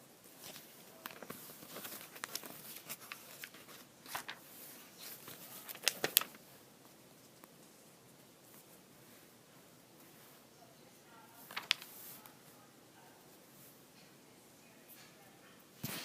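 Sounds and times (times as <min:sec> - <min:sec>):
rustling and handling noises: 0:00.0 - 0:14.2.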